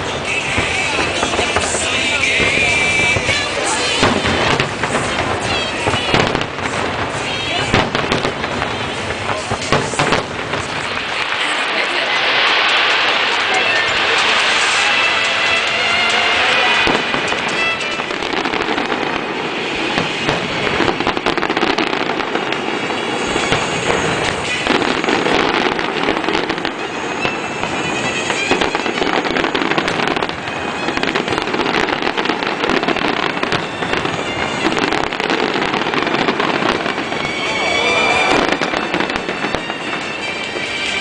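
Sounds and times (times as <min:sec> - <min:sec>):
fireworks bursting and crackling: 0:00.0 - 0:41.0
music playing: 0:00.0 - 0:41.0.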